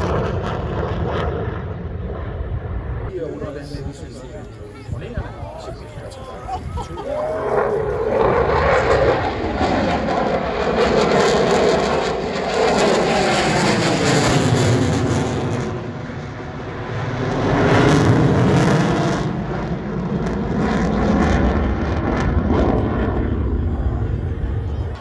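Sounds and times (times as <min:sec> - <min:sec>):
jet engine roaring: 0:00.0 - 0:25.0.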